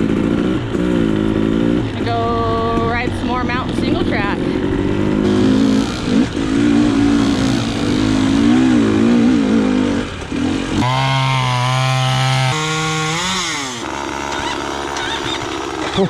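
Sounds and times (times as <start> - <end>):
dirt bike engine: 0.0 - 16.0.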